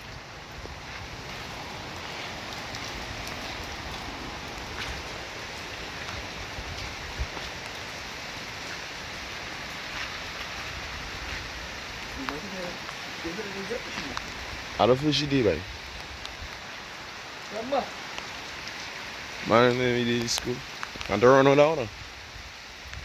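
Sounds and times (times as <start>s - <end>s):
raindrops ticking on surfaces: 0.0s - 23.0s
steady rain hiss: 0.0s - 23.0s.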